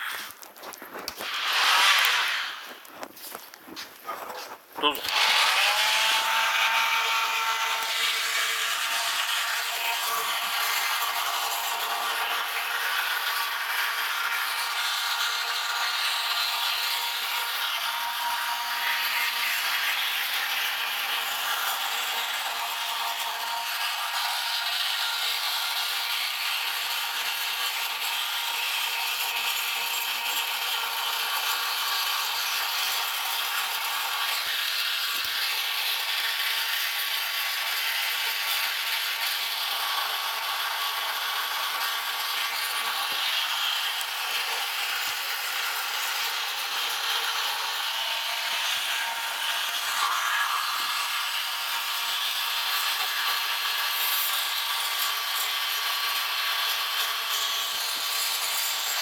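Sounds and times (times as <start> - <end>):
air tool grinding rust off metal: 0.0 - 59.0.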